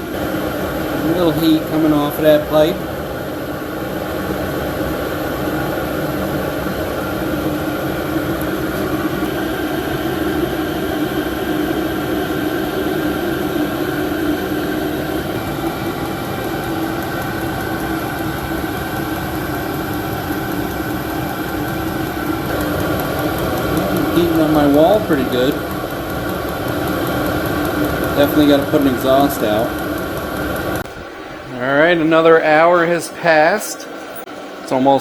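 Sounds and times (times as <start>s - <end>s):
air heater fan humming: 0.0s - 35.0s.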